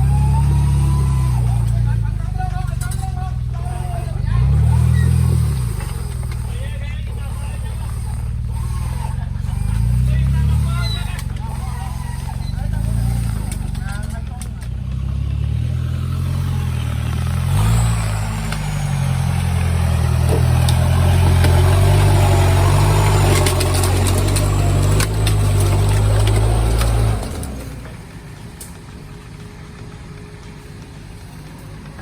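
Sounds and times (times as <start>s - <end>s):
vehicle engine working hard: 0.0s - 32.0s.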